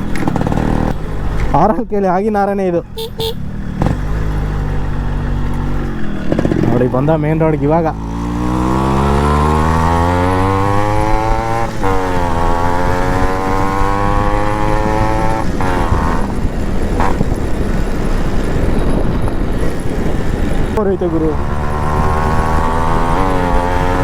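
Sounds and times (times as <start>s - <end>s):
two-stroke motorcycle accelerating: 0.0s - 24.0s.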